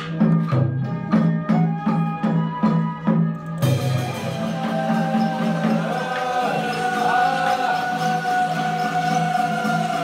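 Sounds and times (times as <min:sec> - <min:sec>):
drum and wood-block strikes: 0:00.0 - 0:10.0.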